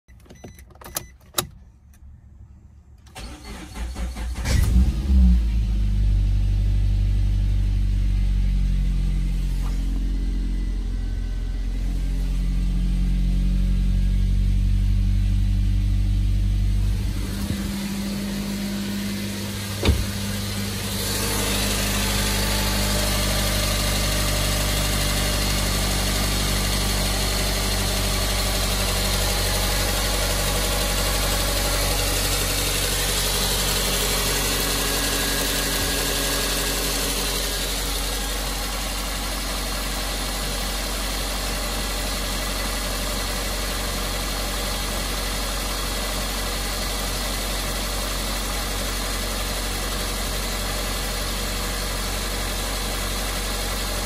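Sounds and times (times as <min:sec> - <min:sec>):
car engine starting and idling: 0:00.1 - 0:54.0.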